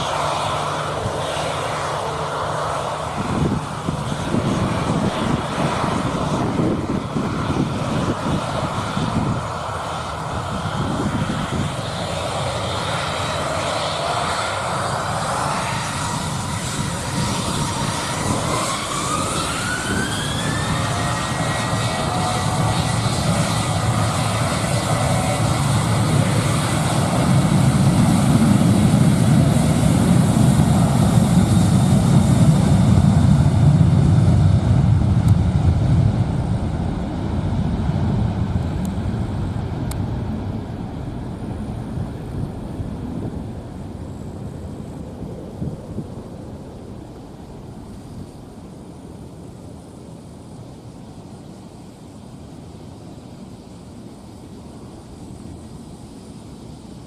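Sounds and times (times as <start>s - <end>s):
jet engines whining: 0.0s - 51.6s.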